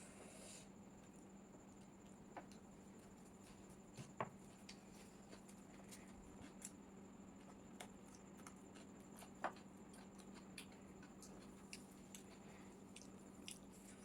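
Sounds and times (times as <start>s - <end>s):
faint steady hum: 0.0s - 14.0s
faint chewing: 1.8s - 14.0s.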